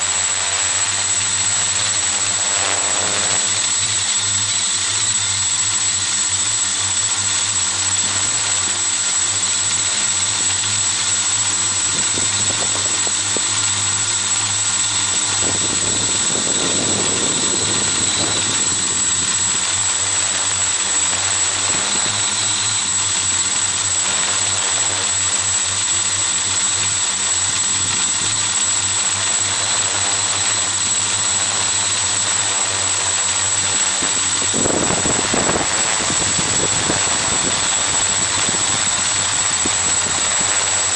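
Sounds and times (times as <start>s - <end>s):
quadcopter propellers humming: 0.0s - 40.9s.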